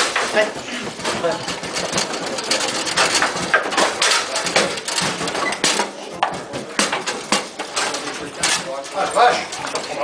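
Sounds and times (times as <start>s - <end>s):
foosball clacks and knocks: 0.0s - 10.0s.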